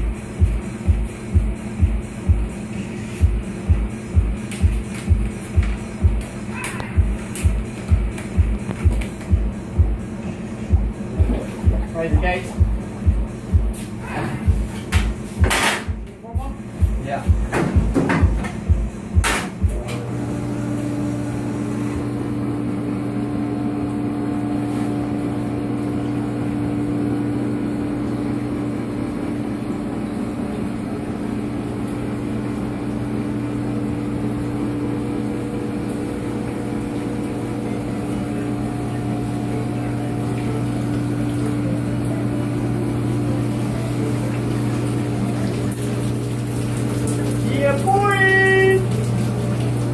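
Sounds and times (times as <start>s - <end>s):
motor hum: 0.0s - 49.9s.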